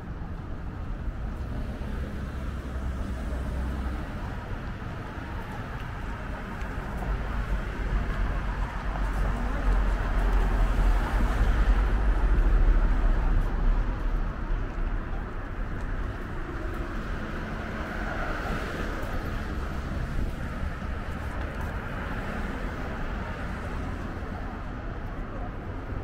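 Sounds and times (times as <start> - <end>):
traffic hum: 0.0 - 26.0.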